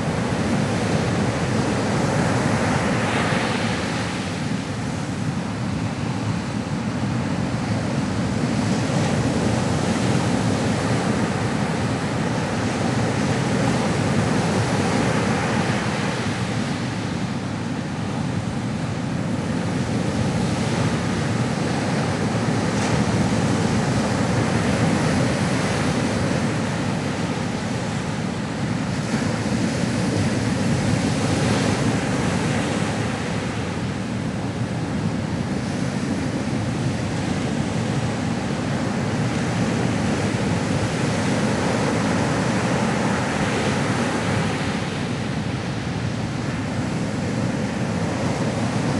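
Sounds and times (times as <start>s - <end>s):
ocean waves breaking: 0.0s - 48.9s.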